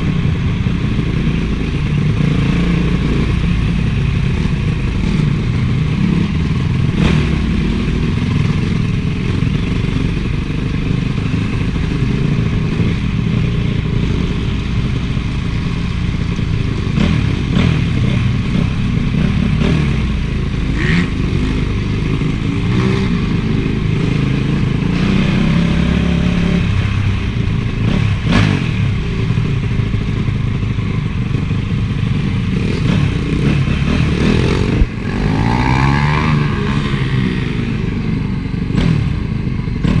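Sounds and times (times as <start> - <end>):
motocross engine revving: 1.0 - 30.0, 32.4 - 40.0.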